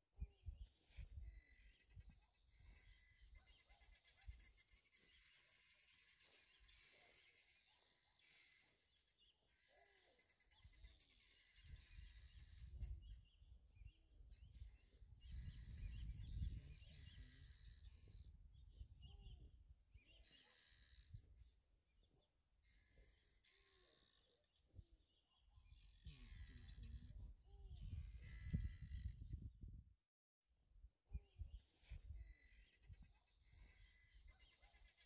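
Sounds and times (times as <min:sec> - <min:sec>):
birds chirping: 0:00.2 - 0:29.8, 0:31.1 - 0:35.0.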